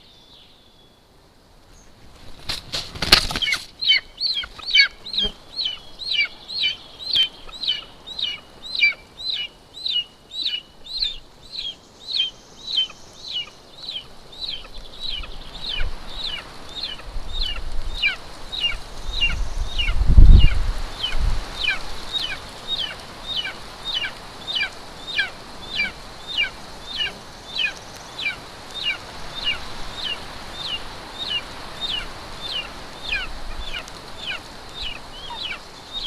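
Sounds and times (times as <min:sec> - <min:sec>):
eagle wingbeats: 0:02.0 - 0:36.0
eagle chick begging calls: 0:03.3 - 0:36.0.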